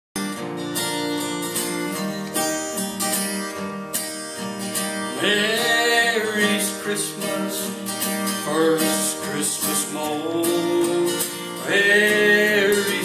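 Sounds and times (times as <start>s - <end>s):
acoustic guitar strummed chords: 0.2s - 13.0s.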